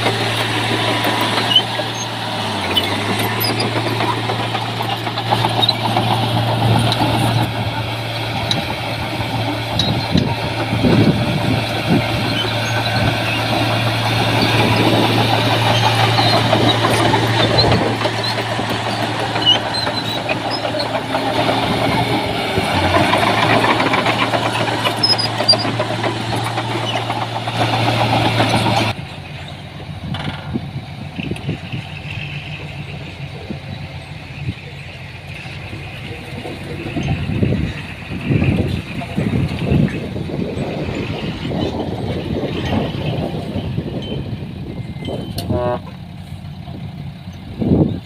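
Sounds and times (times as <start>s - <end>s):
diesel engine droning and clattering: 0.0s - 48.0s.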